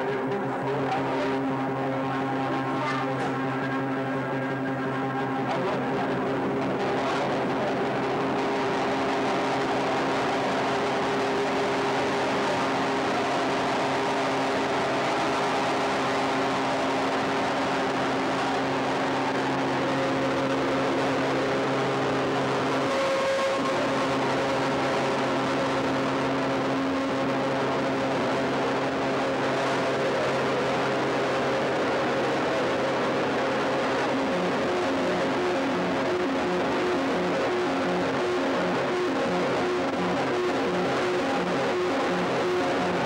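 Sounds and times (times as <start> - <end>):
low electronic drone tones: 0.0 - 43.0.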